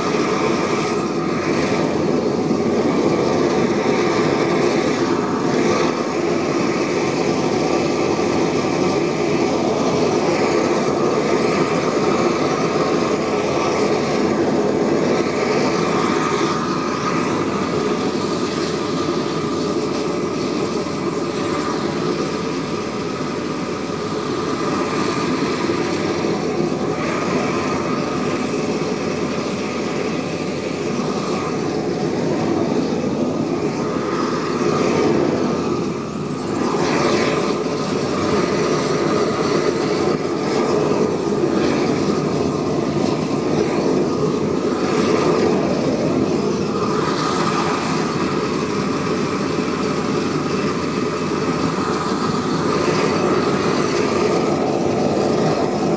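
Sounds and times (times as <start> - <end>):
propane torch flame rushing: 0.0 - 55.9.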